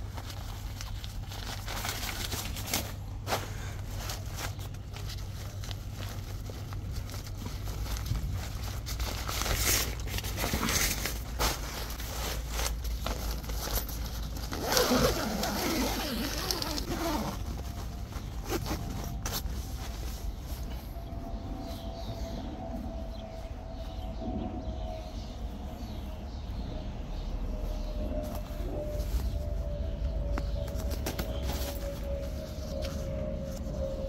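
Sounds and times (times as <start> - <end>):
tent fabric rustling and scraping: 0.0 - 22.3, 24.7 - 34.0.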